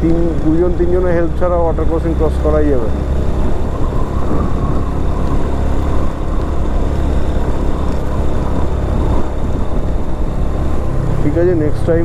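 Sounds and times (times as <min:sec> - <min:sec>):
motorcycle engine running: 0:00.0 - 0:12.0
road and air noise: 0:00.0 - 0:12.0.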